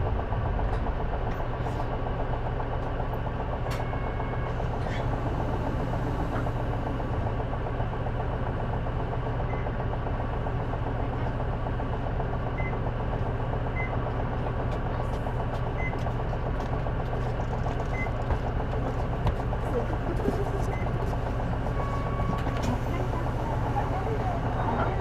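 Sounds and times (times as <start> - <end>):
bus diesel engine idling: 0.0 - 25.0.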